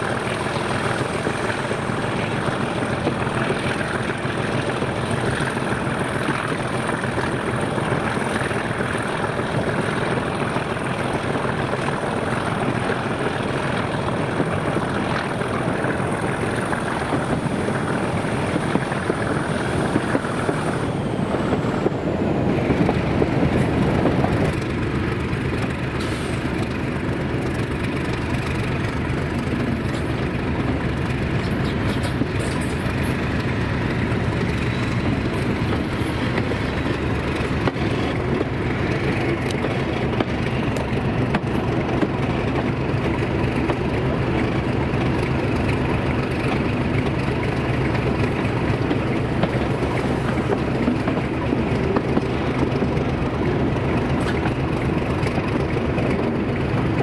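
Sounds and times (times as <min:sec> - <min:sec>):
diesel locomotive engine throbbing: 0:00.0 - 0:57.0
high engine whine: 0:00.0 - 0:57.0.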